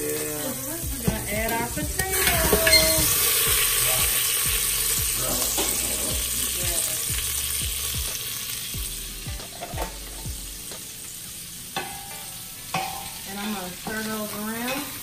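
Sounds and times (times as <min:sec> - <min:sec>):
potatoes sizzling in fat: 0:00.0 - 0:15.0.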